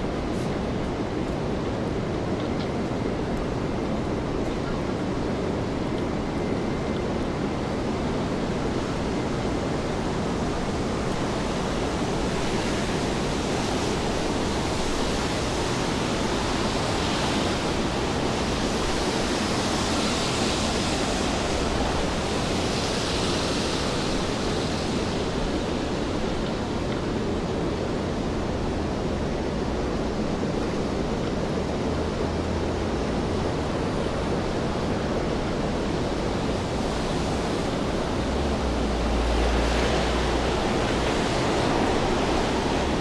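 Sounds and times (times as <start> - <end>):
rain hiss on wet street: 0.0 - 43.0.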